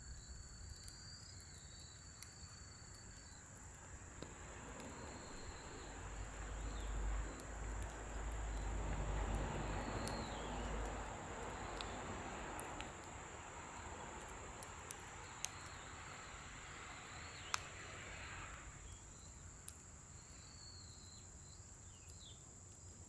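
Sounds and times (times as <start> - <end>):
crickets chirring: 0.0 - 23.0
wood fire crackling and popping: 0.0 - 23.0.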